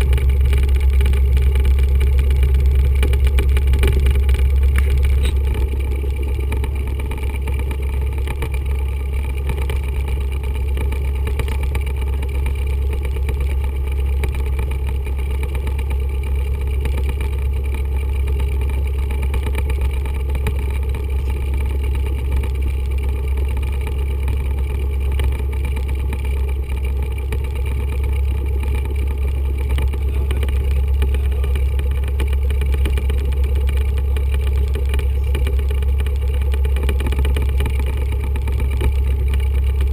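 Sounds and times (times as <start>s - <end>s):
small plane engine drone: 0.0s - 39.9s.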